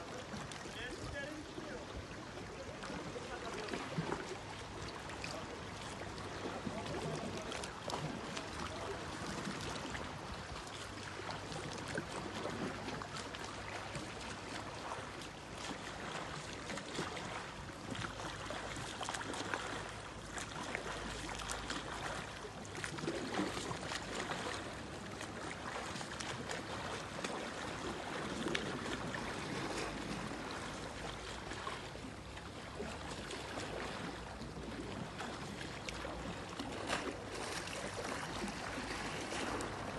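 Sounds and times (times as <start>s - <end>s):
water splashing around swimmer: 0.0s - 39.9s.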